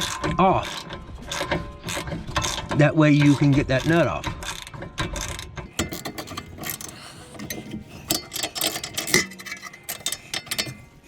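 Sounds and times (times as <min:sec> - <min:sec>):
metallic clicks of wrenches: 0:00.0 - 0:11.0.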